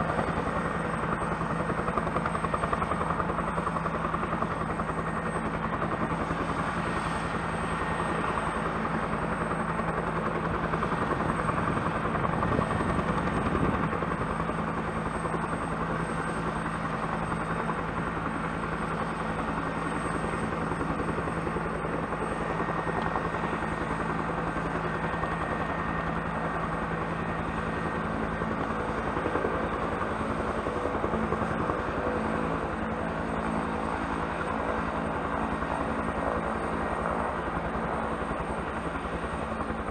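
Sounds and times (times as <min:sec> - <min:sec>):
helicopter rotor beat: 0:00.0 - 0:39.9
helicopter turbine whine: 0:00.0 - 0:39.9.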